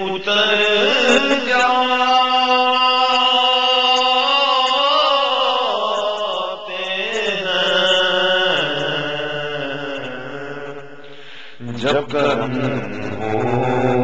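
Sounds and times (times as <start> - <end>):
man singing: 0.0 - 14.0.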